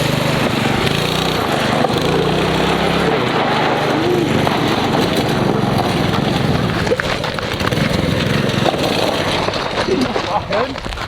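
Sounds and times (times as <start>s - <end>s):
go-kart engine revving: 0.0s - 10.6s.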